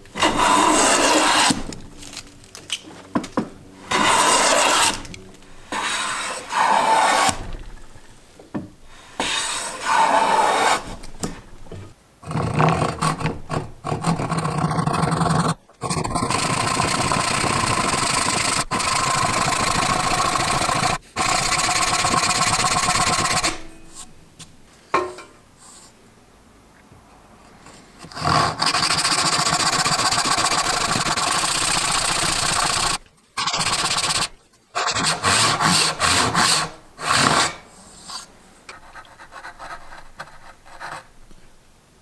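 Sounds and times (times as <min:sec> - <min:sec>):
hand plane cutting wood: 0:00.0 - 0:24.0, 0:28.0 - 0:41.1.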